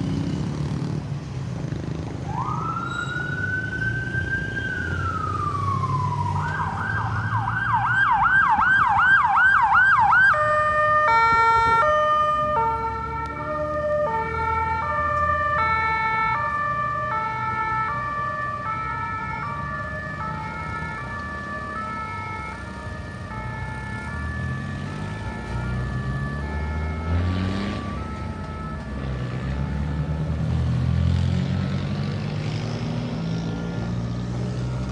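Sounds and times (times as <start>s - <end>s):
low traffic rumble: 0.0s - 34.9s
ambulance siren: 2.0s - 34.9s.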